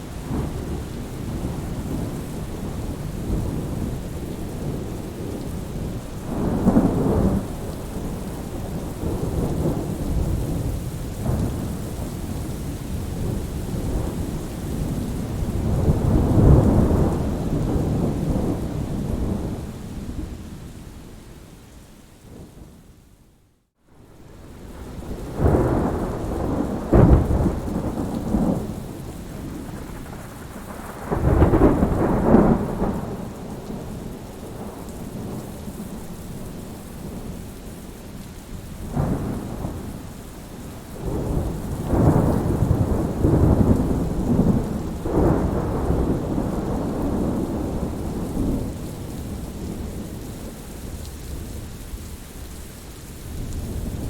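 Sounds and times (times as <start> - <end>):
steady rain: 0.0 - 54.0
thunder rumbling and cracking: 0.2 - 20.3, 24.2 - 37.6, 38.8 - 51.7.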